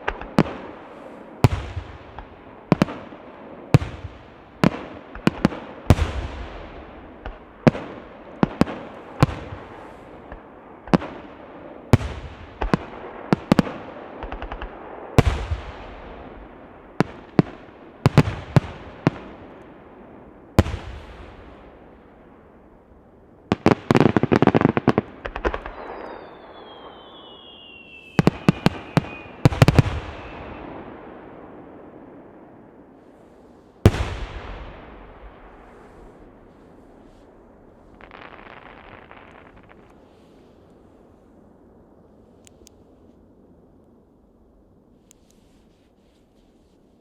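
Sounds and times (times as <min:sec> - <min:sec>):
fireworks bursting with bangs: 0:00.0 - 0:19.6, 0:20.6 - 0:22.0, 0:23.5 - 0:41.1.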